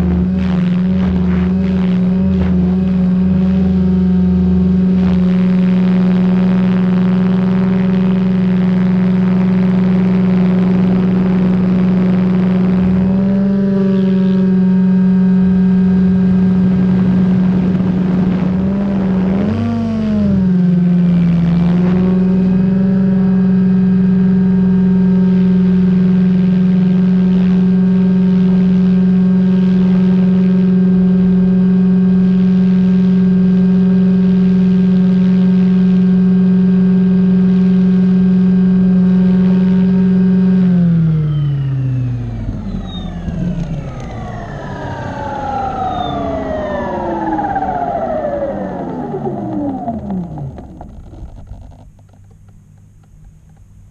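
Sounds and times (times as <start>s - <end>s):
rc helicopter rotor hum: 0.0s - 53.9s.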